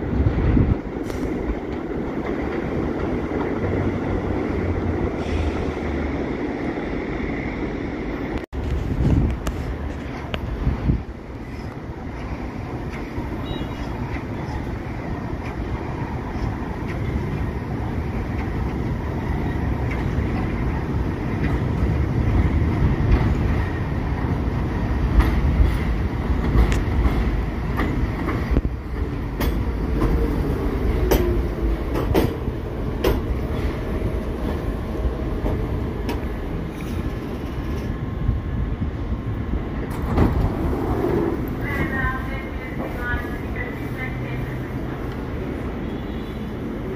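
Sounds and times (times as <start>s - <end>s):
subway train arriving: 0.0s - 46.9s.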